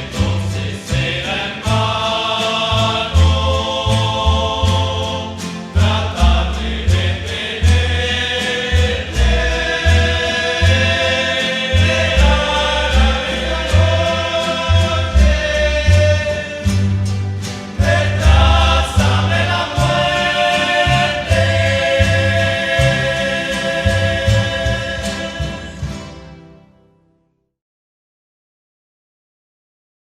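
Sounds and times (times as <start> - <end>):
voices singing in harmony: 0.0 - 26.2
plucked bass line: 0.0 - 26.4
strummed guitars: 0.0 - 26.9.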